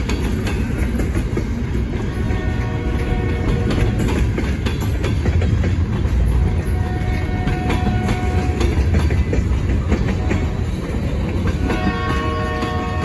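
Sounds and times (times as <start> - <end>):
train wheels rumbling over rail joints: 0.0 - 13.0.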